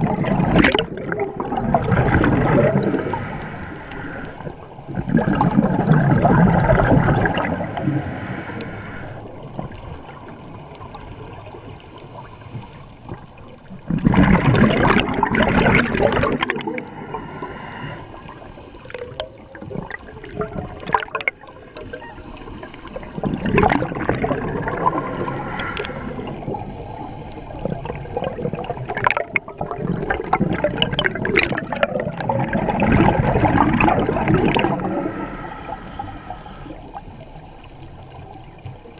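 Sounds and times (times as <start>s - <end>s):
underwater exhaust bubbles: 0.0s - 38.9s.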